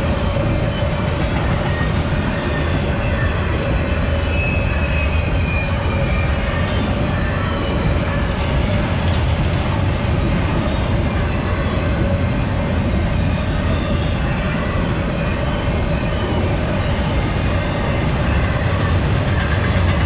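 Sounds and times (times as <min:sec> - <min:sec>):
high wheel squeal: 0:00.0 - 0:08.8, 0:10.4 - 0:20.0
freight train wheels rumbling: 0:00.0 - 0:20.0.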